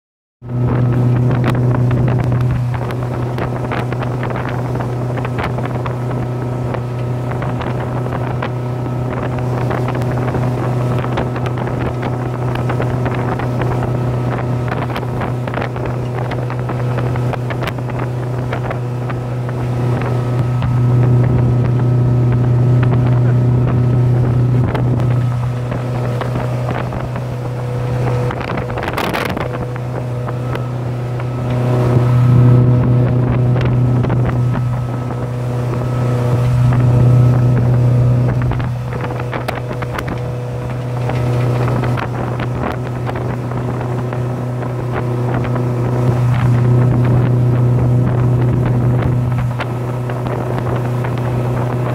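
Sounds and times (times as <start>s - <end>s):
speedboat engine drone: 0.4s - 51.9s
wake and spray rushing: 0.4s - 51.9s
wind buffeting microphone: 0.4s - 51.9s.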